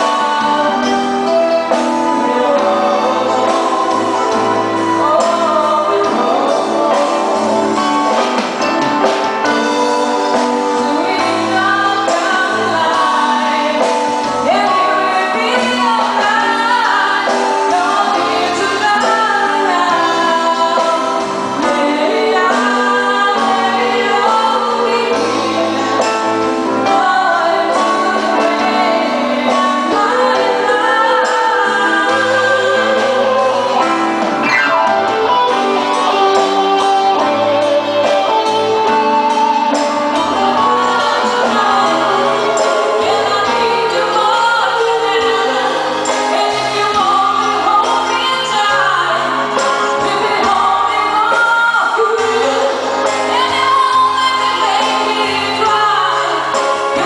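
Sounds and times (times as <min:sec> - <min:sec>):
lead singer singing: 0:00.0 - 0:57.0
live band playing: 0:00.0 - 0:57.0.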